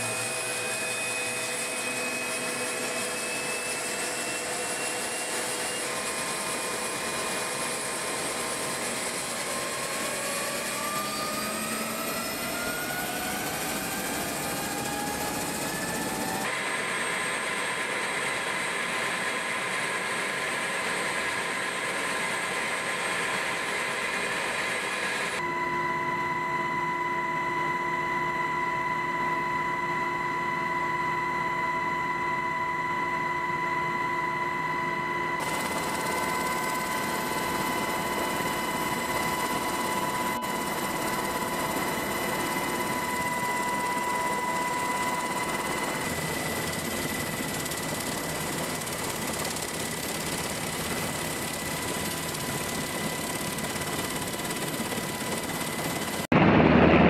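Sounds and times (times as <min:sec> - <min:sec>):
helicopter turbine and rotor noise: 0:00.0 - 0:57.0.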